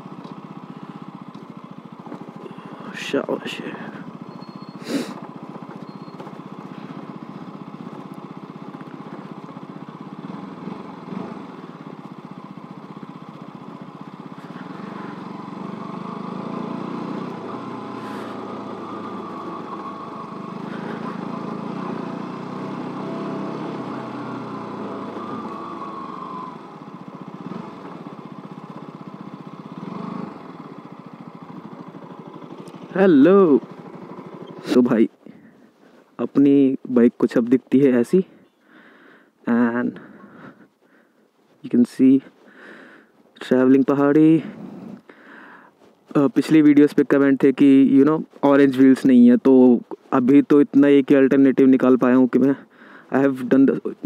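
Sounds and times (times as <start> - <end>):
motorcycle engine revving: 0.0 - 36.0, 39.6 - 40.8, 42.2 - 54.0.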